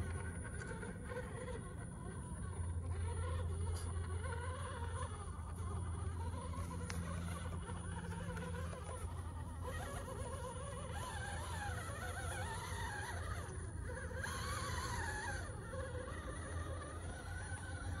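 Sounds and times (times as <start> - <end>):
electric motor and gearbox whining: 0.0 - 18.0.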